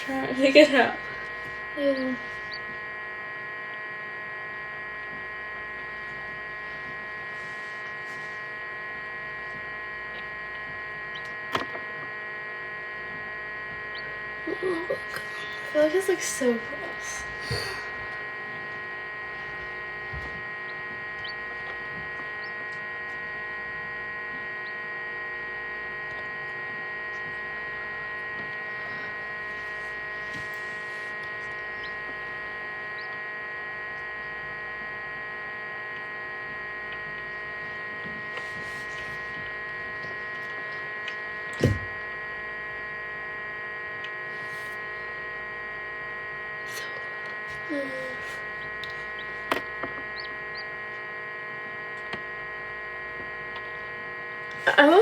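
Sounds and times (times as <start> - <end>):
incubator fan motor hum: 0.0 - 55.0.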